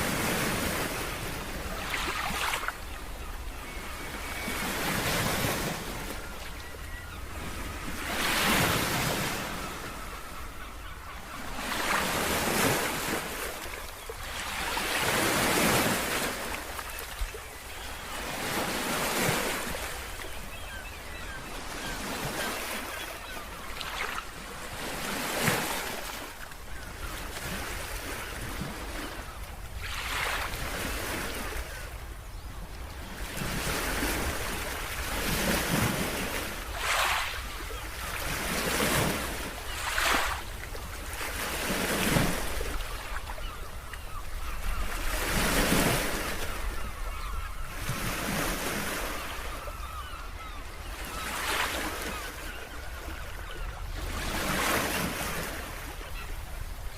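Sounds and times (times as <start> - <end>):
ocean waves breaking: 0.0 - 10.4, 11.3 - 31.9, 32.8 - 56.9.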